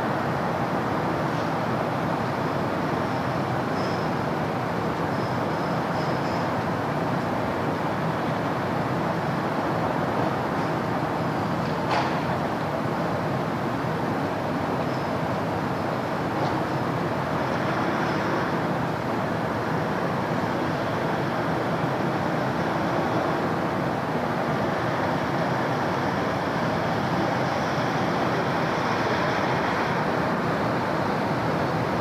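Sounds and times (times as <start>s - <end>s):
city road traffic: 0.0s - 32.0s.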